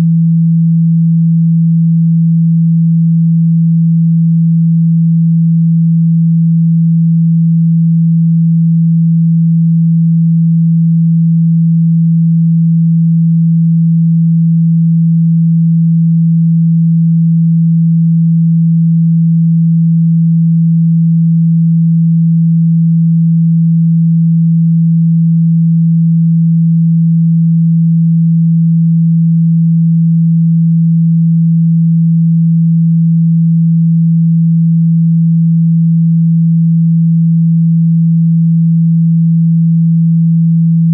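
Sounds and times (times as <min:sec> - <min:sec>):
low sine-wave test tone: 0:00.0 - 0:40.9.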